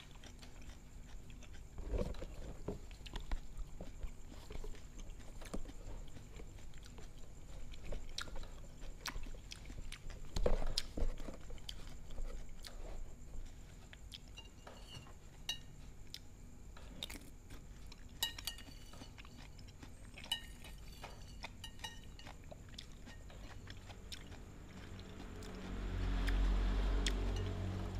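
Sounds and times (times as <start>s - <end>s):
close-up chewing: 0.0s - 27.4s.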